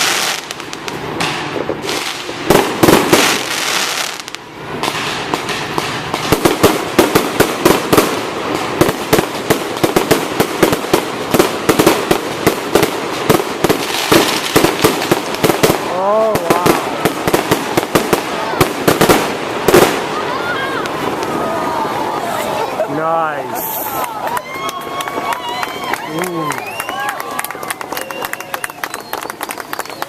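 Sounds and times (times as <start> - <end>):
fireworks crackling and popping: 0.0 - 30.0
loud firework bangs: 0.0 - 30.0.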